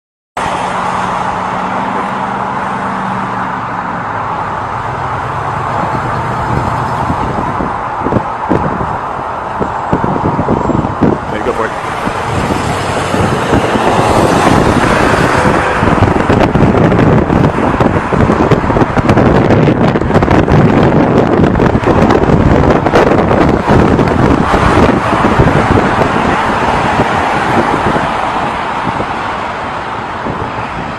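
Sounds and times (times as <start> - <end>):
crackling wind buffets: 0.4 - 30.9
engine and wind rushing: 0.4 - 30.9.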